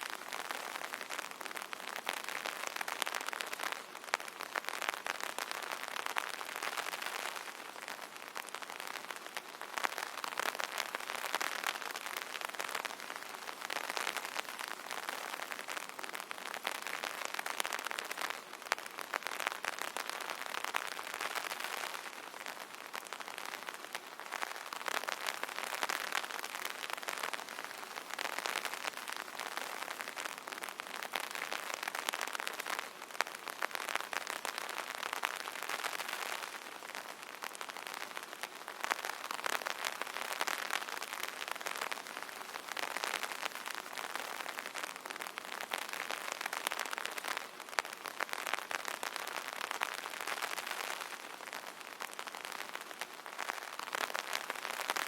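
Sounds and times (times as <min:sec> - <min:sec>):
rain pattering on an umbrella: 0:00.0 - 0:55.0.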